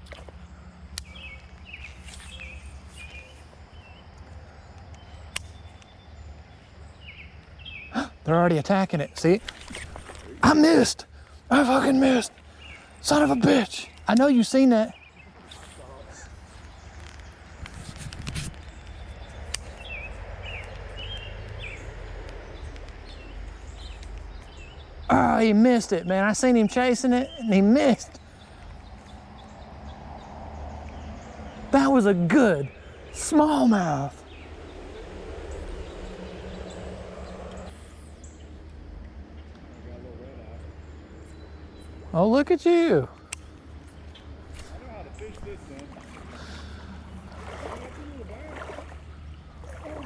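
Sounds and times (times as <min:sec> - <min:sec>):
low outdoor rumble: 0:00.0 - 0:50.0.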